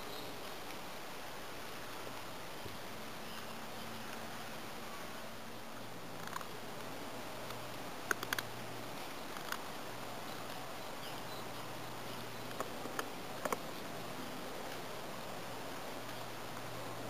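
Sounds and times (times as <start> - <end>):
low hiss and hum: 0.0 - 17.0.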